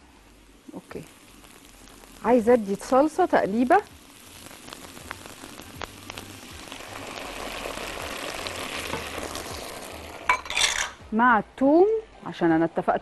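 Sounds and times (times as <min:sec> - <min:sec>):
food sizzling in frying pan: 0:00.0 - 0:11.2.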